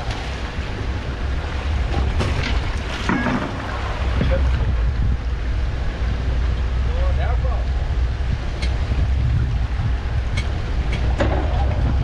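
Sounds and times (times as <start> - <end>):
low rumble of wind and boat: 0.0 - 12.0
water splashing against hull: 0.0 - 12.0.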